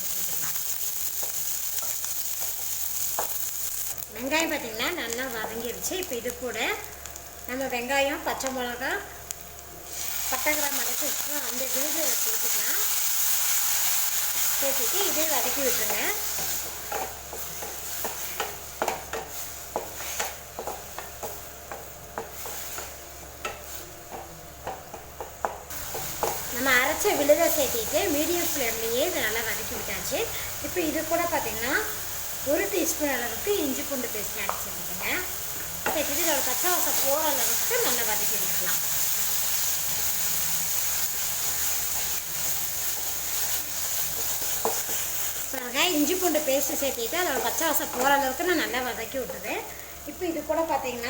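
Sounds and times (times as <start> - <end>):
paste sizzling in oil: 0.0 - 24.0, 25.7 - 51.0.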